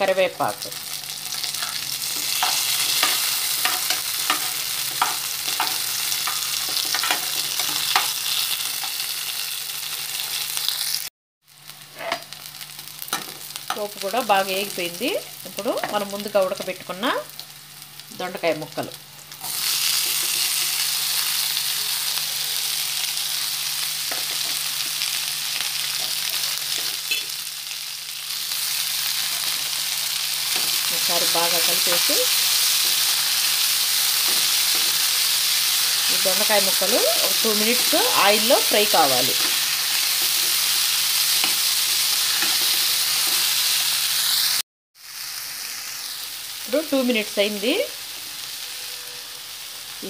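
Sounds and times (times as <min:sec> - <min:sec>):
food sizzling in hot oil: 0:00.0 - 0:50.0.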